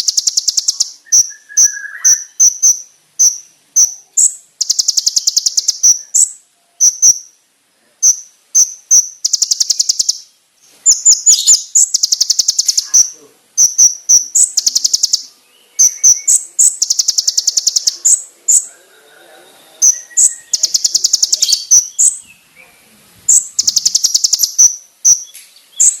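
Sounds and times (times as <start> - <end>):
bird chips and trills: 0.0 - 7.4, 8.0 - 18.8, 19.8 - 22.5, 23.3 - 26.0.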